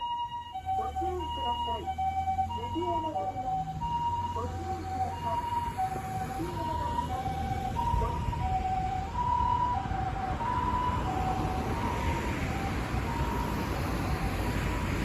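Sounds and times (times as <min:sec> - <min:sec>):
two-tone ambulance siren: 0:00.0 - 0:15.0
vehicle rumble on road: 0:00.0 - 0:15.0.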